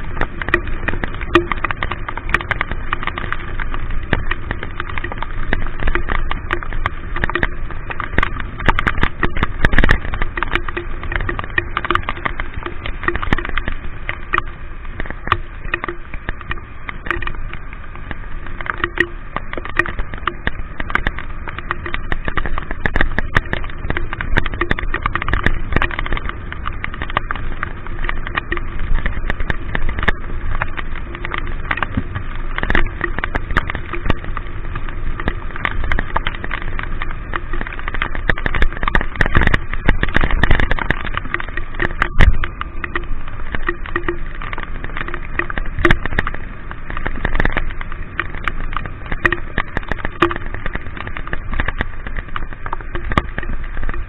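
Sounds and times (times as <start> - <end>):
rain and wind noise: 0.0 - 54.0
raindrop clicks: 0.0 - 54.0.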